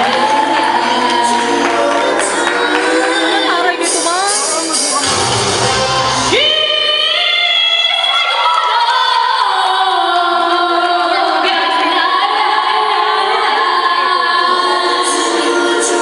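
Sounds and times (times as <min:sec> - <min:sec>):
woman singing through loudspeaker: 0:00.0 - 0:16.0.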